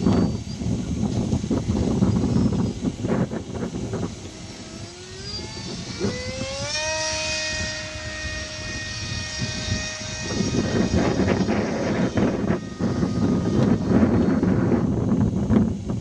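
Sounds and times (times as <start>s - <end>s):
electric motor whine: 0.0s - 16.0s
gusty rumbling: 0.0s - 16.0s.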